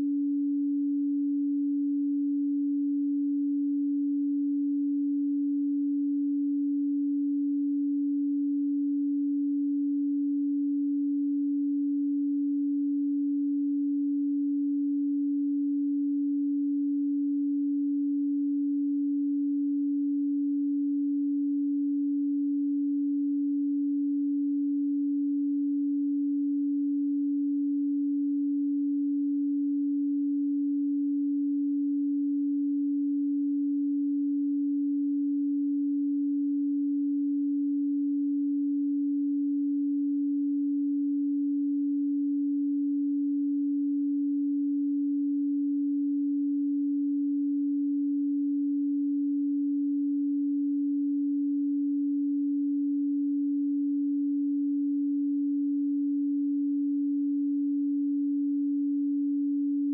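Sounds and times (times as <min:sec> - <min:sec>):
steady sine tone: 0:00.0 - 0:59.9.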